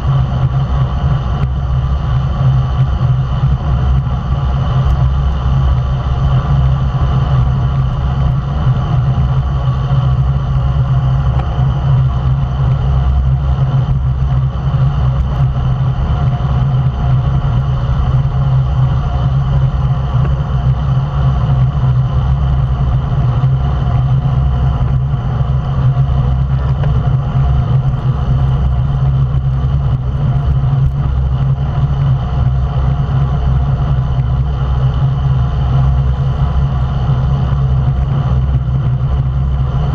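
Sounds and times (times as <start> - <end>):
road rumble: 0.0 - 39.9
wind rush on microphone: 0.0 - 39.9.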